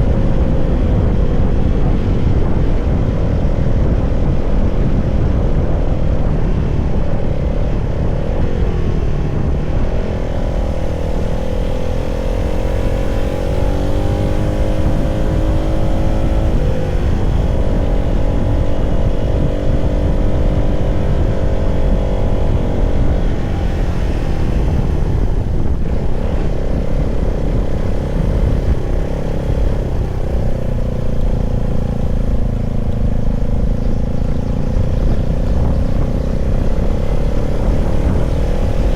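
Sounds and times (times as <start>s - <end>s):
heavy low rumble: 0.0s - 38.9s
motorcycle engine pulling: 0.0s - 38.9s.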